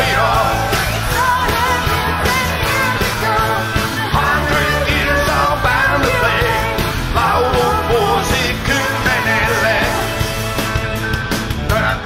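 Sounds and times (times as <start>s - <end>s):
person singing: 0.0s - 10.2s
rock and roll band playing: 0.0s - 12.0s.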